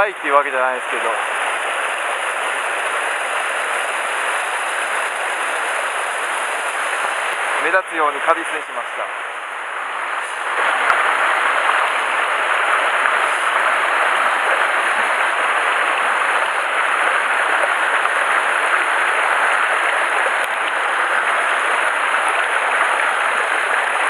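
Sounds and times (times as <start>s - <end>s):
stream water rushing over rocks: 0.2s - 24.0s.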